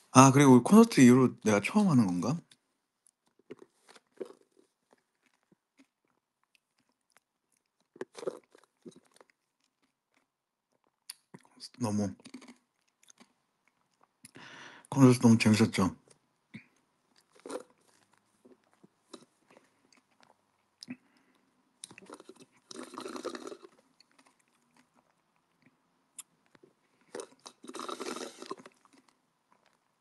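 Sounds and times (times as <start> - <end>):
crunching rustling noise: 2.4 - 14.1, 16.0 - 20.9, 21.8 - 30.0.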